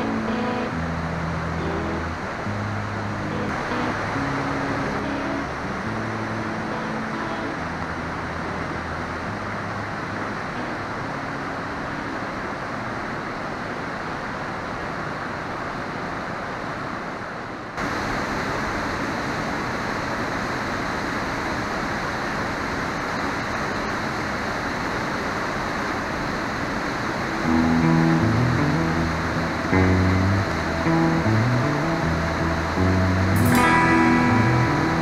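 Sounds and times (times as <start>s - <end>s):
waterfall rushing: 0.0s - 17.0s, 17.8s - 35.0s.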